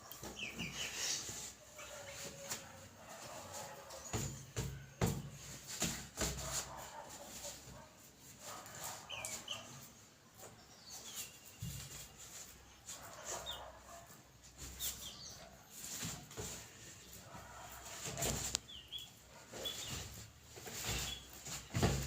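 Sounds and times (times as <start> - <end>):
chickens chirping: 0.0 - 22.0.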